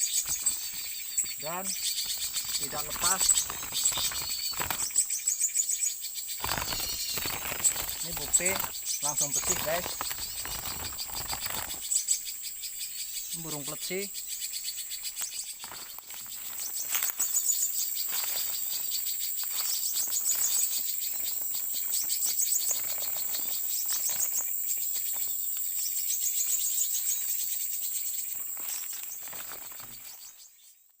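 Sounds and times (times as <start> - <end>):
insects buzzing high-pitched: 0.0 - 30.7
rapid insect chirping: 0.0 - 30.9.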